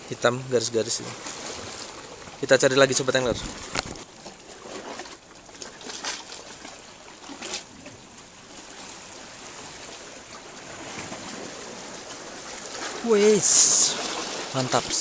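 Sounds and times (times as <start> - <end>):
water lapping between rocks: 0.8 - 15.0.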